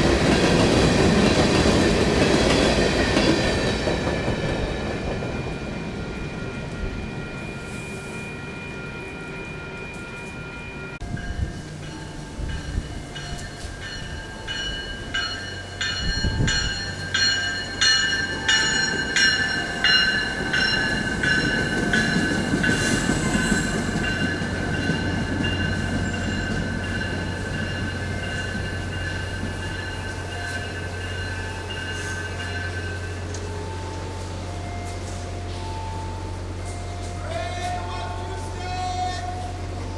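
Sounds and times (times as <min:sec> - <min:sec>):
train wheels squealing on rails: 0:00.0 - 0:39.9.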